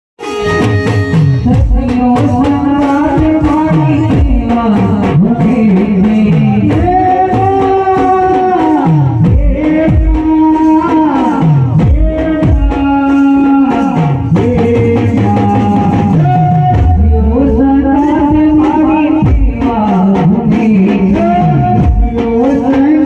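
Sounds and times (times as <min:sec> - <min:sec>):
steady beat with low drums: 0:00.2 - 0:23.0.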